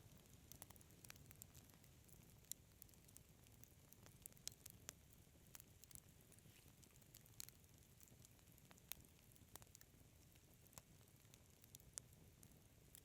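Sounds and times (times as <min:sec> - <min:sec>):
faint steady hiss: 0:00.0 - 0:13.0
wood fire crackling and popping: 0:00.0 - 0:13.0.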